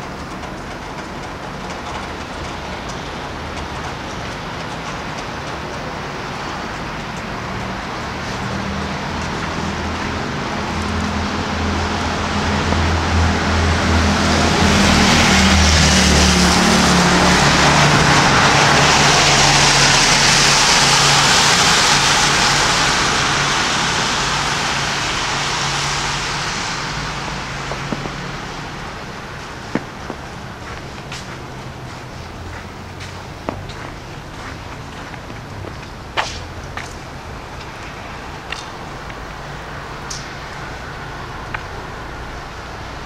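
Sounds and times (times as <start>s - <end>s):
vehicle engine hum: 0.0s - 43.0s
tyres hissing on road: 2.2s - 43.0s.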